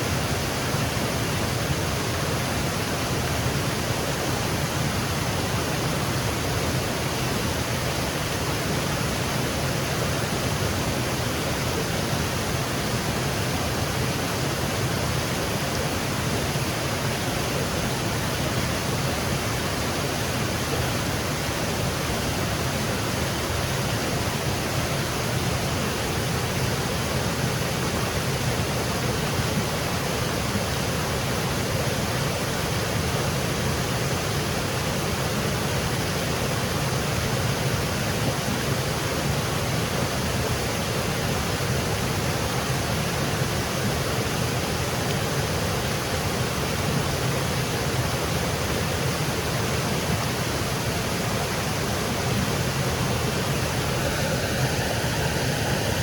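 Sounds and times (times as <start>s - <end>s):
waterfall cascading over rocks: 0.0s - 56.0s.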